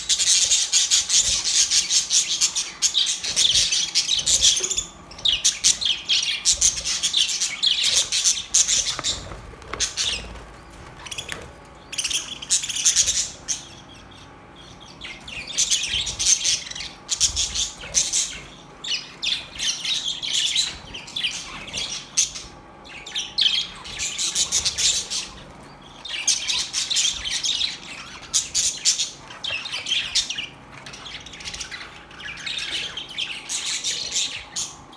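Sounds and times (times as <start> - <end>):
budgerigars chattering and warbling: 0.0 - 34.9.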